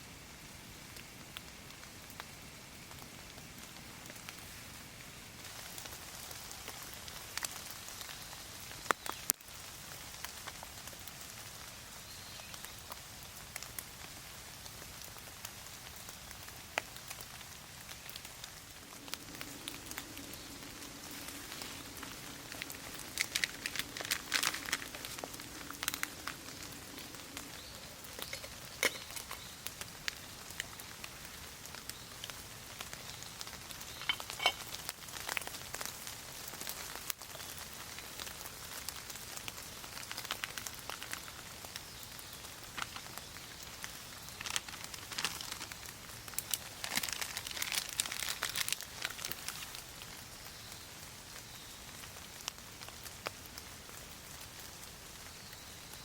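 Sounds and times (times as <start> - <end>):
rain falling on trees: 0.0 - 56.0
close raindrops ticking: 0.1 - 56.0.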